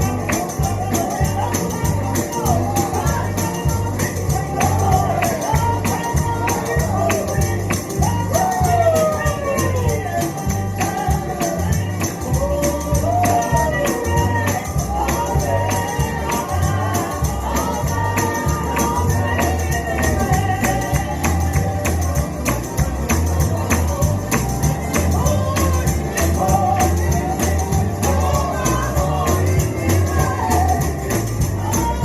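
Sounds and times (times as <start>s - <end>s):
person singing: 0.0s - 32.0s
pulsing bass line: 0.0s - 32.0s
tambourine shaken: 0.0s - 32.0s.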